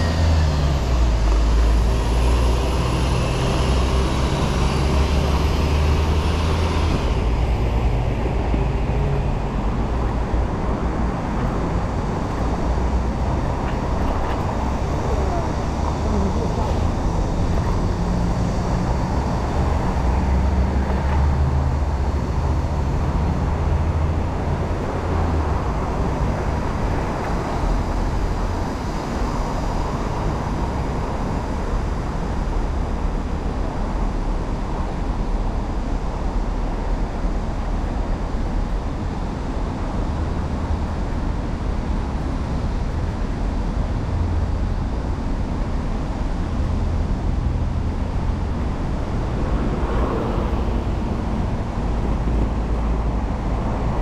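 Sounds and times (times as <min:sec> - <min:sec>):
city street traffic rumble: 0:00.0 - 0:54.0.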